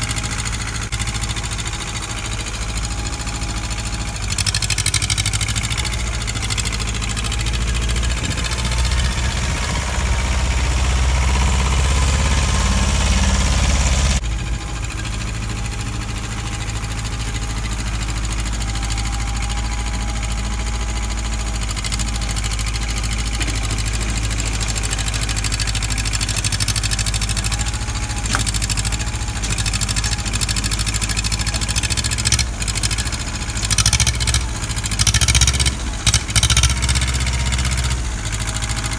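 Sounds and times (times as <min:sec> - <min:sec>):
digging machine engine running: 0:00.0 - 0:38.9.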